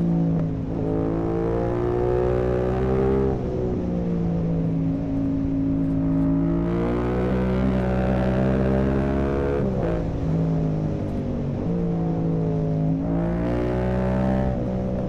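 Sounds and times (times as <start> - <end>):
motorcycle engine revving: 0.0 - 10.4, 12.9 - 15.0.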